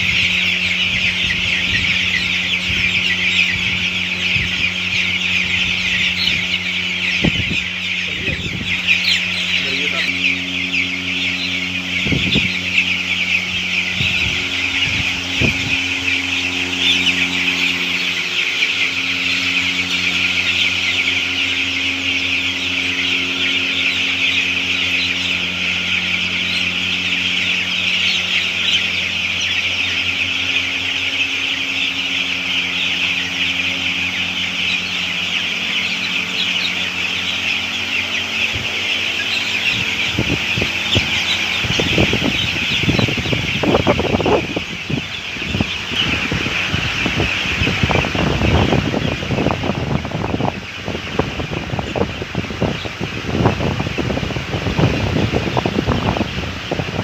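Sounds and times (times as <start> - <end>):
chickens cheeping and clucking: 0.0 - 57.0
low machine hum: 0.0 - 57.0.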